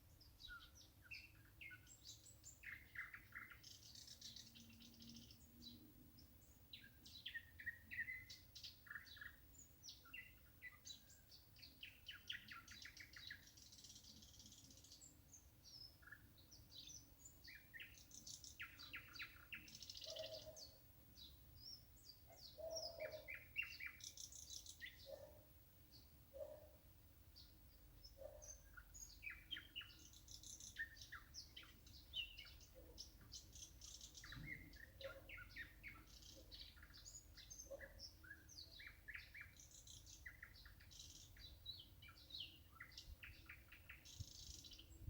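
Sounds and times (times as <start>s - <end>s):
songbirds chirping and trilling: 0.0s - 45.0s.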